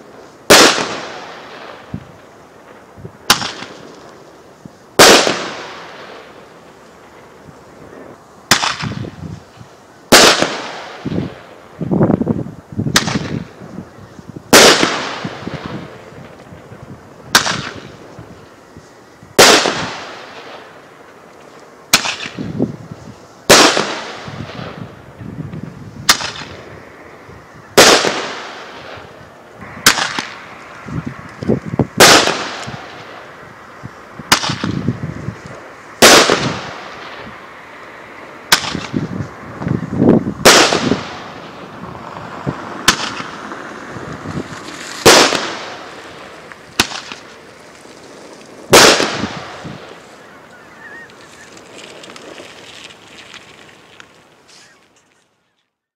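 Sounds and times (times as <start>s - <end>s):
firework crackles: 0.0s - 55.4s.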